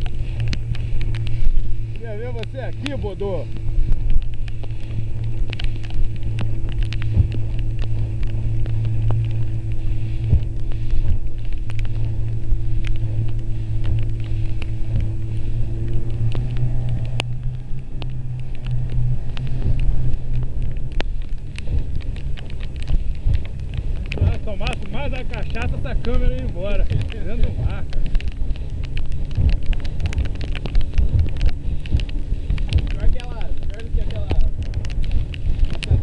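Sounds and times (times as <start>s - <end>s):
motorboat engine running: 0.0s - 36.0s.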